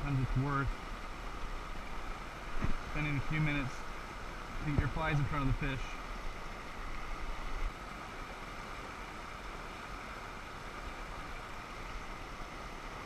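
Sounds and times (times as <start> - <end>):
rocky river rushing: 0.0 - 13.0.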